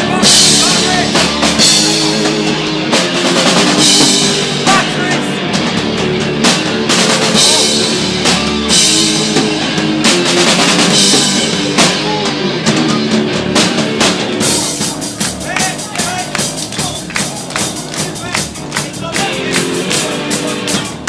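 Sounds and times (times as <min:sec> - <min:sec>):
bass guitar: 0:00.0 - 0:21.0
drum kit with cymbal crashes: 0:00.0 - 0:21.0
electric guitars: 0:00.0 - 0:21.0.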